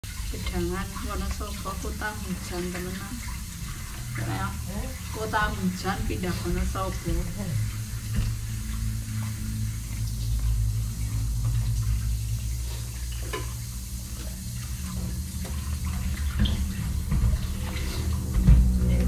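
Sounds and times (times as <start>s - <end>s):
low steady hum: 0.0s - 19.0s
water rushing: 0.0s - 19.0s.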